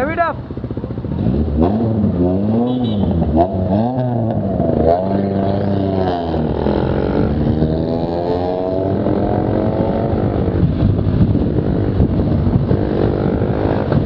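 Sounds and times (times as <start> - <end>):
car engine revving: 1.0 - 14.0.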